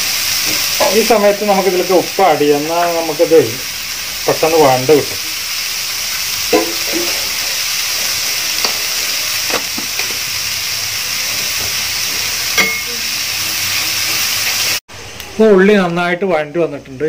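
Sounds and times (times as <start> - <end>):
onions sizzling in hot oil: 0.0 - 15.1.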